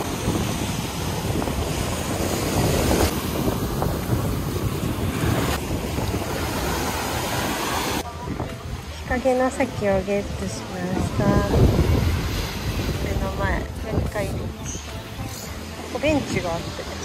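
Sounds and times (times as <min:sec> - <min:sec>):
ocean surf washing ashore: 0:00.0 - 0:17.0
wind buffeting microphone: 0:00.0 - 0:17.0.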